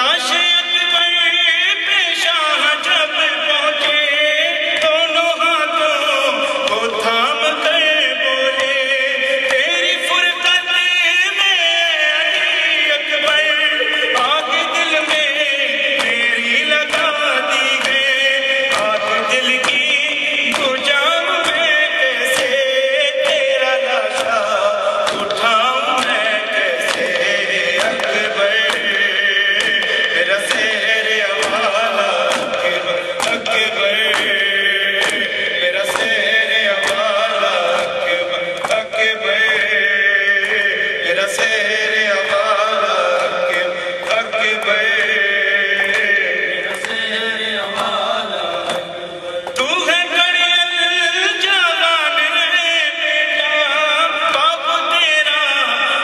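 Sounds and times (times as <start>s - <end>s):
man chanting into microphone: 0.0s - 56.0s
men chanting along: 0.0s - 56.0s.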